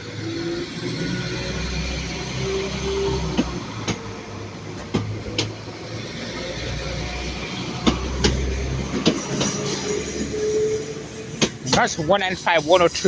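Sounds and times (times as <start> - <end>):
train rumble: 0.0 - 13.0
train wheels clicking over rail joints: 0.8 - 13.0.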